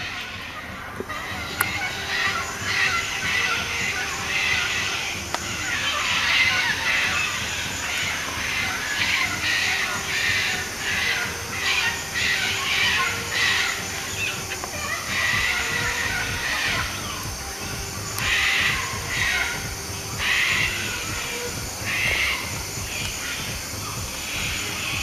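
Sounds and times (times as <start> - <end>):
cockatoos screeching: 0.0 - 25.0.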